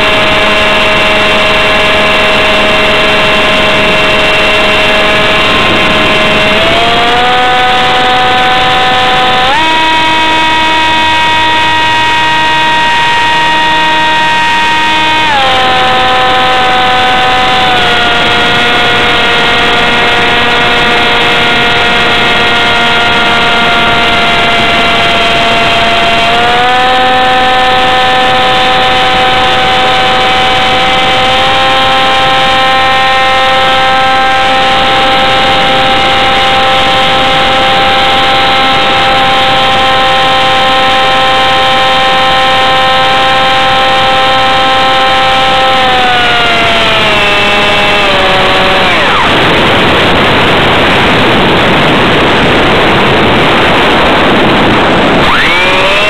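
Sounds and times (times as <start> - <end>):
model jet motor whine: 0.0 - 56.0.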